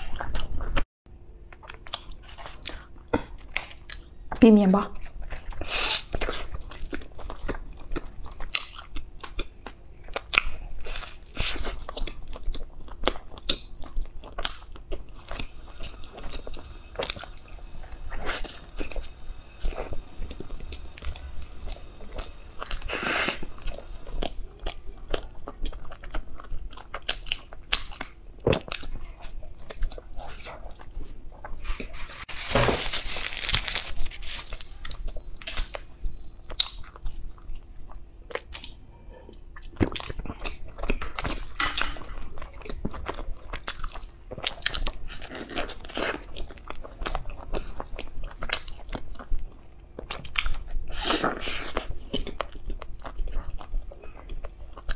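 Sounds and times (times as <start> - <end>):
biting and chewing bread buns: 5.0 - 54.9.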